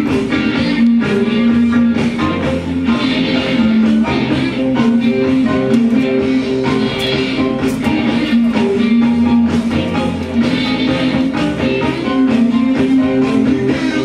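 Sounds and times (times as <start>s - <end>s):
guitar rock music: 0.0s - 14.0s.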